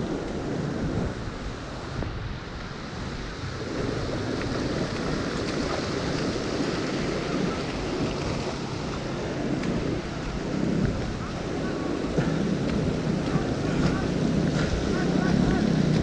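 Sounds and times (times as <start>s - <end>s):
stream rushing: 0.0s - 16.0s.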